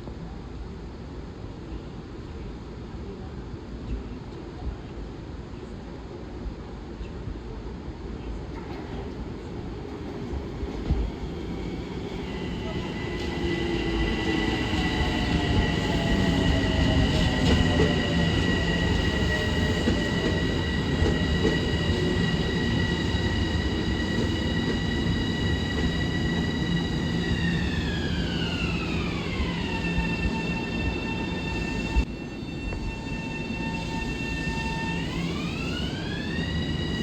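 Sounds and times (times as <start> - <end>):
high layered train whine: 0.0 - 37.0
train rumble: 0.0 - 37.0.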